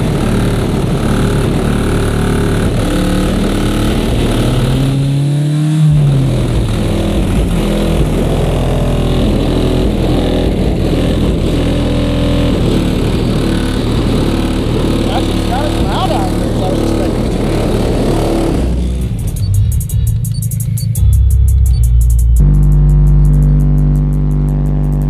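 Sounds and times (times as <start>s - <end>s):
bass-heavy music through subwoofers: 0.0s - 25.0s.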